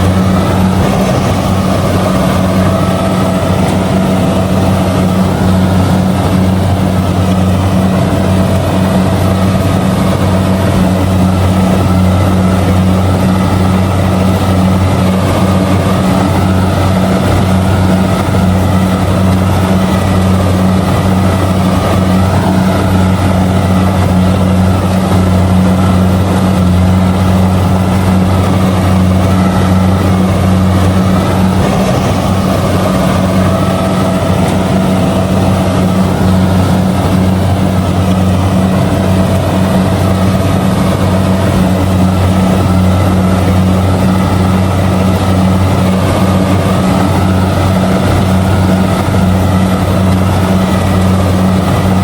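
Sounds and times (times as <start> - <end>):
diesel engine drone: 0.0 - 52.0.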